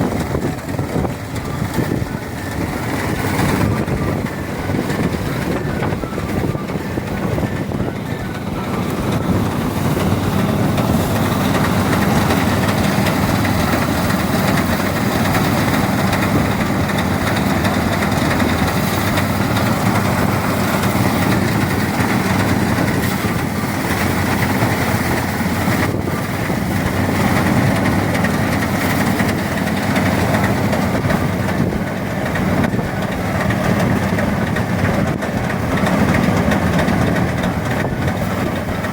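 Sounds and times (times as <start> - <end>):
rice thresher engine running: 0.0 - 38.9.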